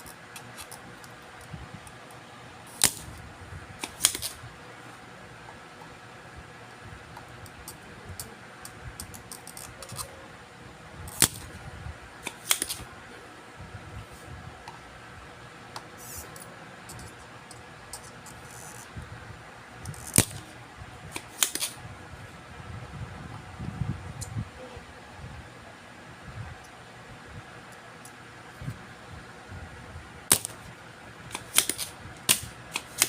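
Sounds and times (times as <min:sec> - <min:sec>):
fan hum: 0:00.0 - 0:33.0.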